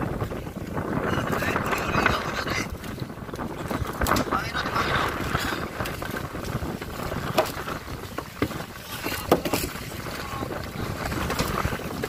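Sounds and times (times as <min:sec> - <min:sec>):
sea noise: 0:00.0 - 0:12.0
wind on microphone: 0:00.0 - 0:12.0.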